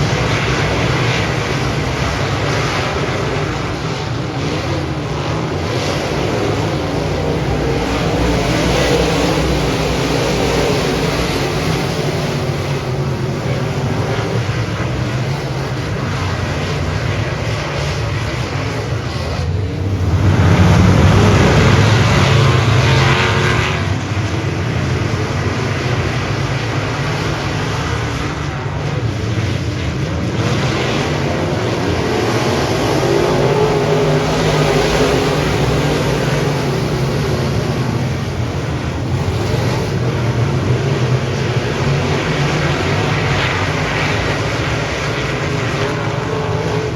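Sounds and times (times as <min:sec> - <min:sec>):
race car engines running hard: 0:00.0 - 0:46.9.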